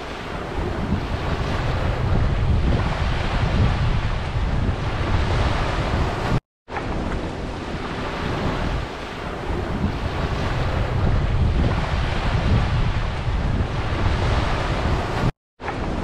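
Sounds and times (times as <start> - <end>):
small waves washing onto beach: 0.0 - 16.0
wind rumbling on microphone: 0.0 - 16.0.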